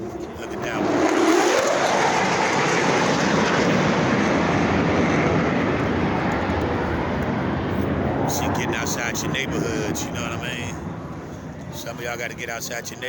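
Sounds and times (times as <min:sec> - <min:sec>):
airplane roaring overhead: 0:00.0 - 0:13.0.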